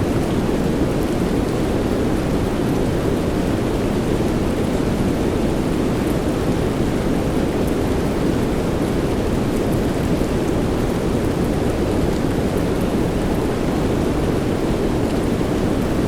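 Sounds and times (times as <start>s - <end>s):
soft rain: 0.0s - 16.0s.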